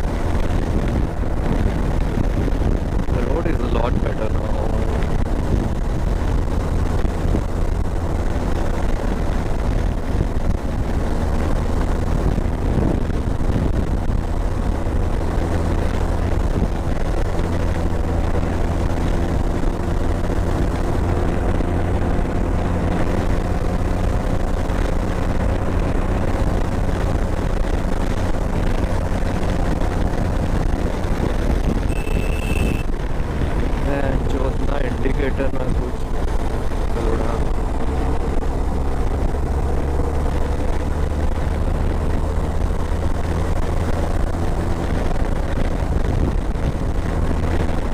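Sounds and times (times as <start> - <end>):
motorcycle engine cruising: 0.0 - 47.9
road noise: 0.0 - 47.9.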